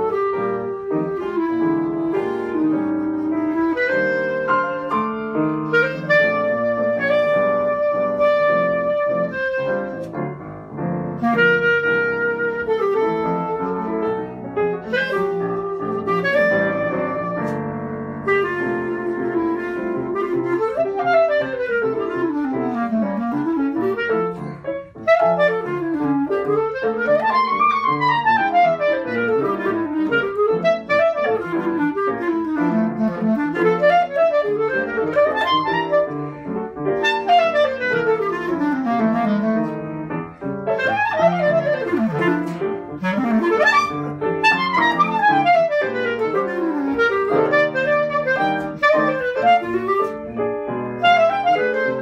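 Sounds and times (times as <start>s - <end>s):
clarinet playing jazz: 0.0s - 52.0s
piano chords: 0.0s - 52.0s.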